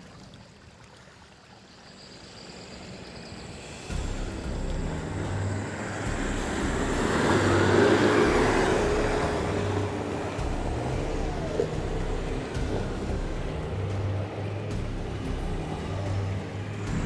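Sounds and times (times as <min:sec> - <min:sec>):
suv engine driving uphill: 0:03.1 - 0:17.0.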